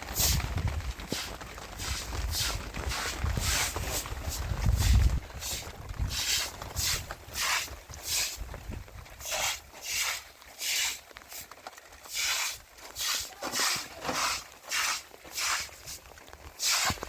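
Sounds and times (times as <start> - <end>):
footsteps on wet ground: 0.0 - 17.0.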